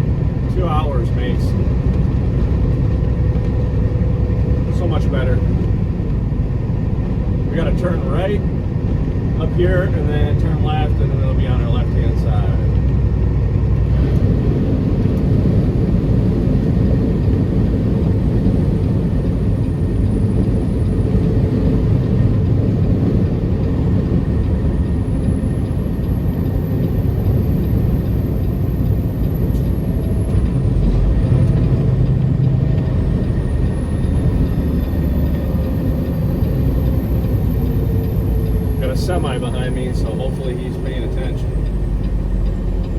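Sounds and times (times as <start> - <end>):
truck engine and road rumble: 0.0 - 42.9.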